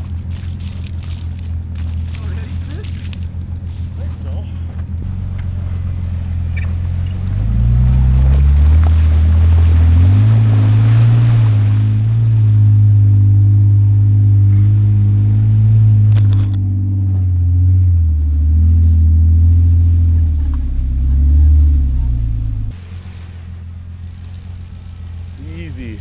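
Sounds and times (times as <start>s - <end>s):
truck engine pulling hard: 0.0s - 26.0s.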